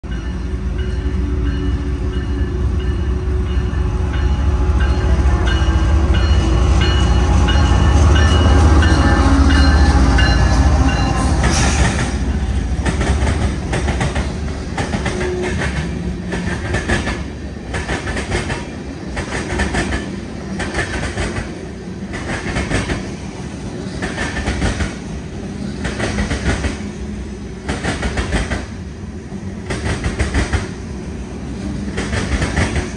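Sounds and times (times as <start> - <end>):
train wheels clickety-clack: 4.2 - 27.0, 27.6 - 28.8, 29.6 - 30.8, 31.4 - 32.9.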